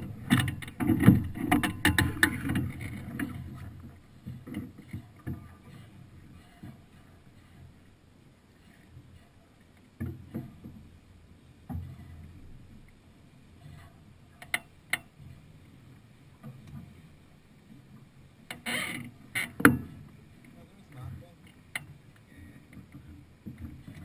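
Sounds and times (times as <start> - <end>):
water and hull noise: 0.0 - 24.0.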